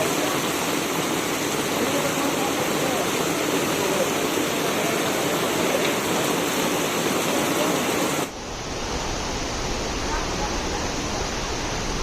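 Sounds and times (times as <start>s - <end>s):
pouring rain: 0.0s - 12.0s
rushing water: 0.0s - 12.0s.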